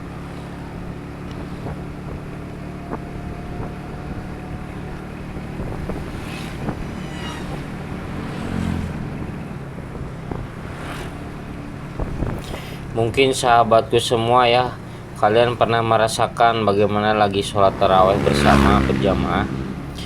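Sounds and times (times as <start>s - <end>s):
road noise: 0.0s - 20.0s
vehicle engine drone: 0.0s - 20.0s
wind buffeting microphone: 0.0s - 20.0s.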